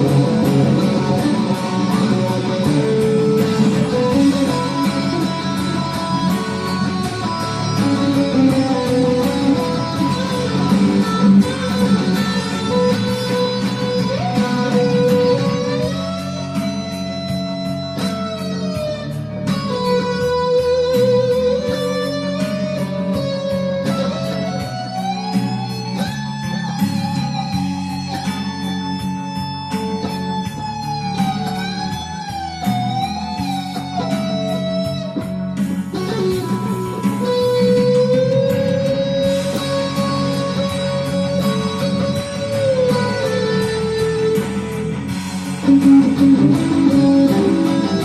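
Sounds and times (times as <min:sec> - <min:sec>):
guitar chord backing: 0:00.0 - 0:48.0
guitar melody with vibrato: 0:00.0 - 0:48.0.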